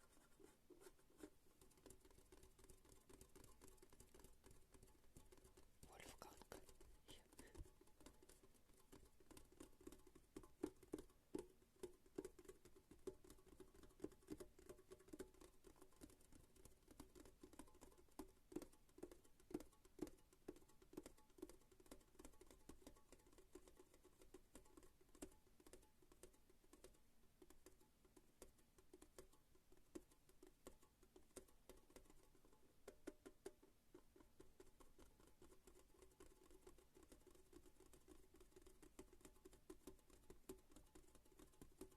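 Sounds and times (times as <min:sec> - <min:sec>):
light tapping on hard object: 0:00.0 - 0:41.9.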